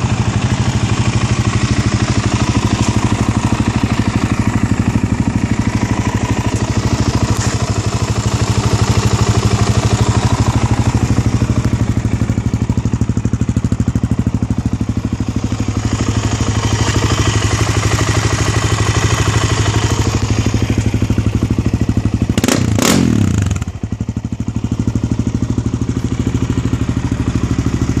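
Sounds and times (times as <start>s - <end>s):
quad engine idling: 0.0s - 28.0s.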